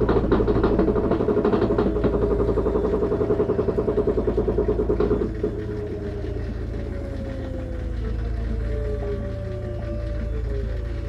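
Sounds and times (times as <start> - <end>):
washer drain pump growling: 0.0 - 11.0.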